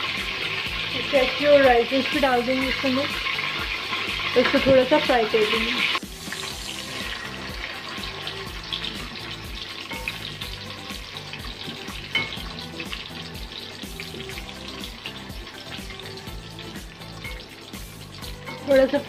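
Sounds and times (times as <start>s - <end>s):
food sizzling in hot oil: 0.0s - 19.0s
soft background music: 0.0s - 19.0s.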